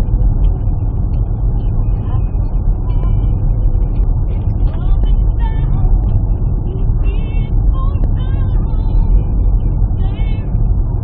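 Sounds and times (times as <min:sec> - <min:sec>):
road vehicle rumble: 0:00.0 - 0:11.0.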